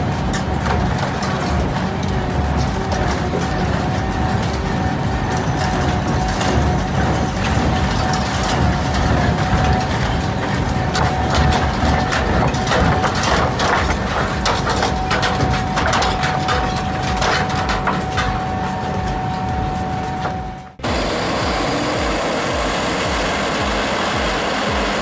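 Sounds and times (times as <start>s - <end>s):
shredder engine rumbling: 0.0s - 25.0s
thin whine: 0.0s - 25.0s.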